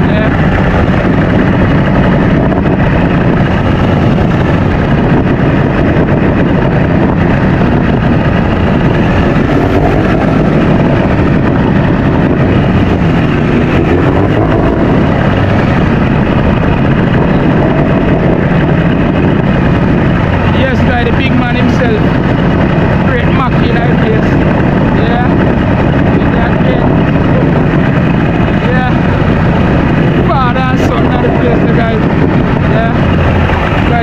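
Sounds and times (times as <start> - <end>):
outboard motor running: 0.0 - 34.0
water churning along hull: 0.0 - 34.0.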